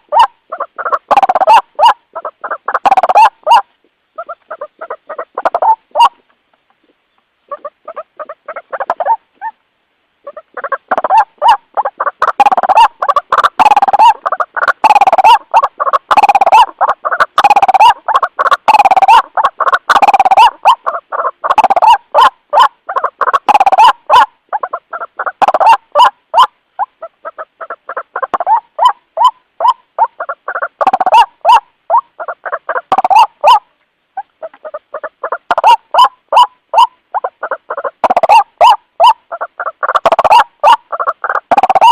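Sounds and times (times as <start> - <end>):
waterhen calling: 0.0 - 41.9.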